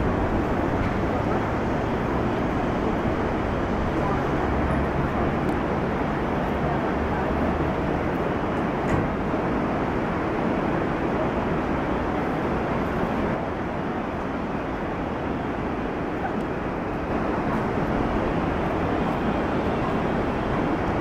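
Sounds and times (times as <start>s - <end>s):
steam locomotive rushing: 0.0s - 21.0s.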